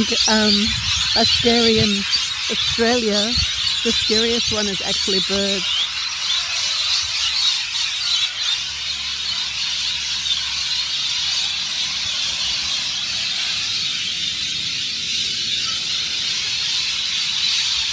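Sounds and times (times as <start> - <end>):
flock of birds screeching: 0.0 - 17.9.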